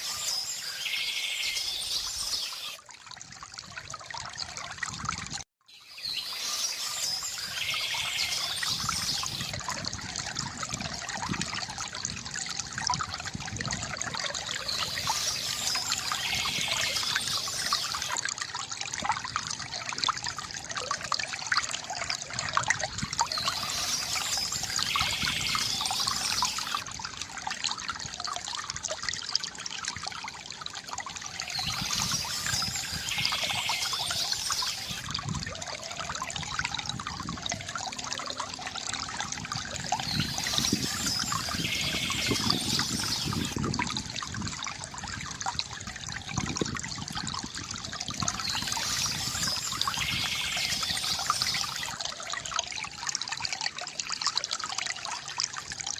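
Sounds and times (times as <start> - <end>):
fountain water trickling and gurgling: 0.0 - 55.9.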